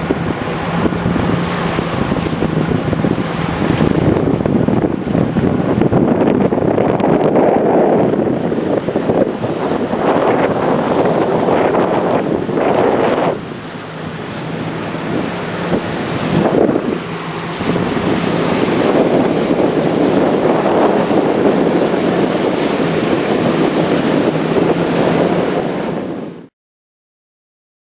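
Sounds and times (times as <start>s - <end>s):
low motorboat engine hum: 0.0s - 26.5s
rushing water and boat wake: 0.0s - 26.5s
wind buffeting microphone: 0.0s - 26.5s.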